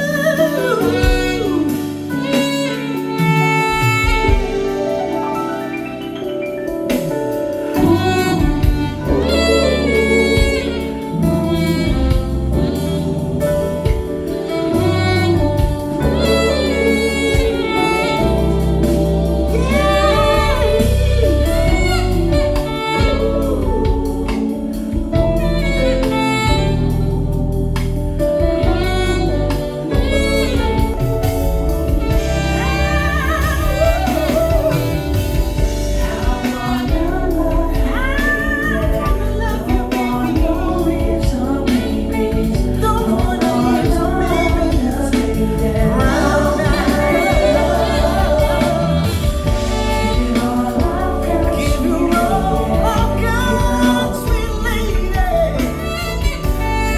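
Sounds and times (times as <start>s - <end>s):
song with sung vocals: 0.0s - 27.2s, 29.2s - 56.9s
heavy bass line: 3.7s - 56.9s.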